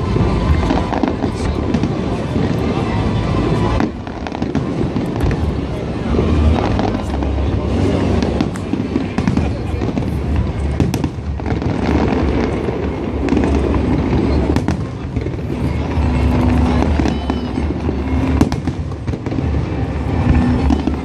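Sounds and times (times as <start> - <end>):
fireworks booms rumbling: 0.0 - 21.0
sharp fireworks cracks: 0.0 - 21.0.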